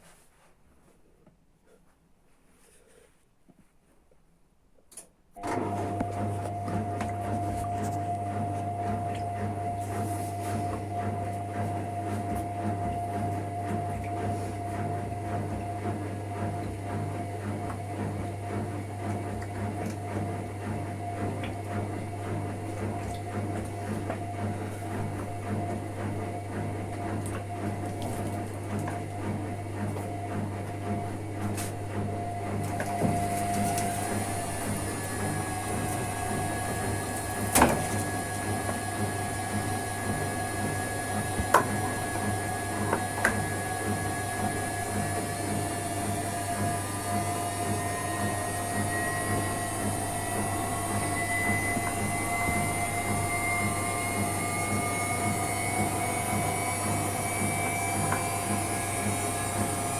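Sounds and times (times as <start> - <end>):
washing machine running: 5.4 - 59.9.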